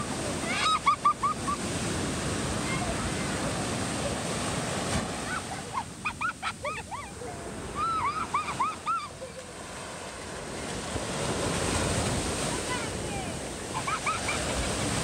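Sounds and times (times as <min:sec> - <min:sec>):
surf washing up beach: 0:00.0 - 0:15.0.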